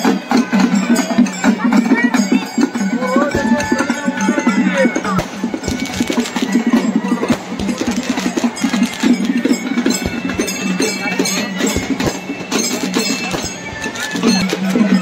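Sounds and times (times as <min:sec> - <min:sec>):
crowd of voices: 0:00.0 - 0:15.0
music with percussion: 0:00.0 - 0:15.0.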